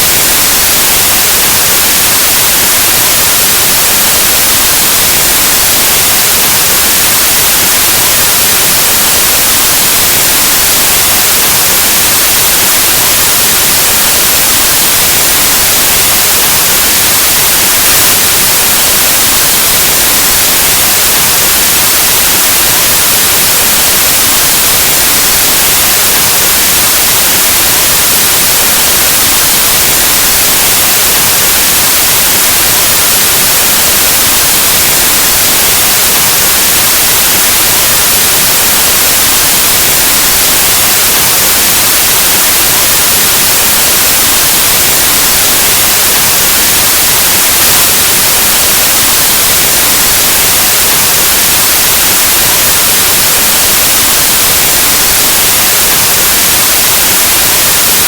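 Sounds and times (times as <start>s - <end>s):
static white noise hiss: 0.0s - 58.0s.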